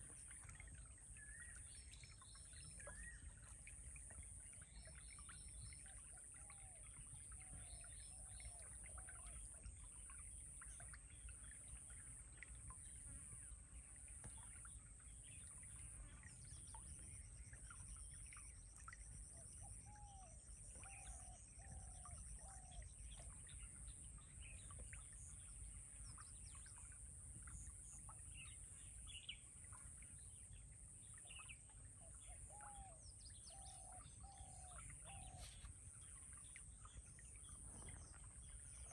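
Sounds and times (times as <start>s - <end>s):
birds chirping faintly: 0.0s - 38.9s.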